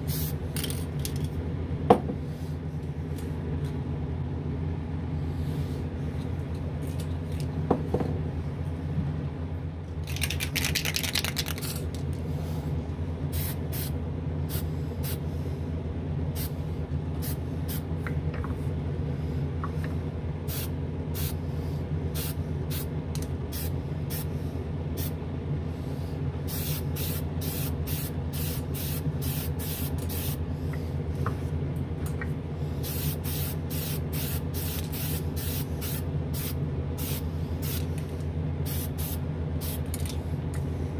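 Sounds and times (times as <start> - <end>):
exhaust fan humming: 0.0 - 40.9.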